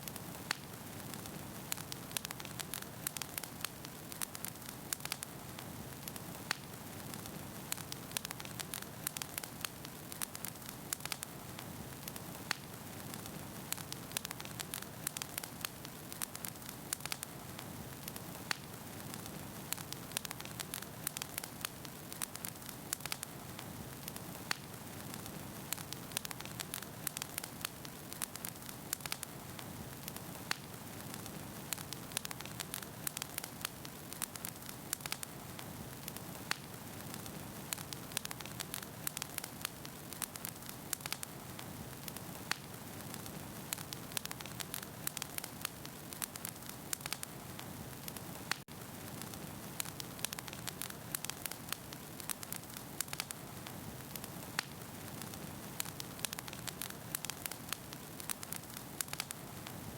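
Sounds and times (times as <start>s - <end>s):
soft fire hiss: 0.0s - 59.9s
wood fire crackling: 0.0s - 59.9s.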